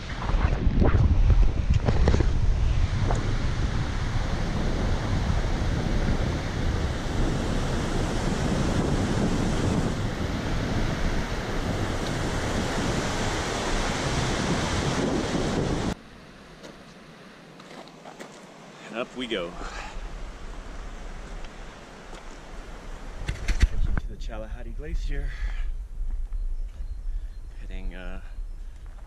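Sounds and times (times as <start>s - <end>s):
wind buffeting microphone: 0.0s - 16.0s, 19.3s - 29.0s.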